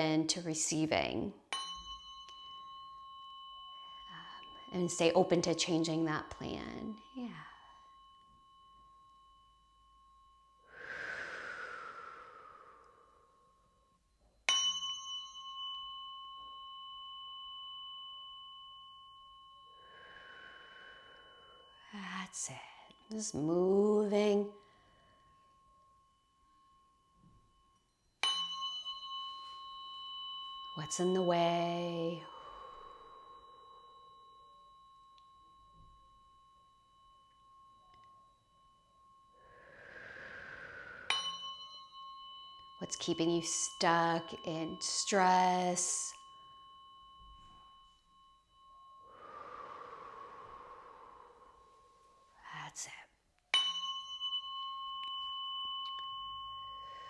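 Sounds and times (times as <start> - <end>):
tuning fork ringing: 1.0 - 52.4, 53.4 - 57.0.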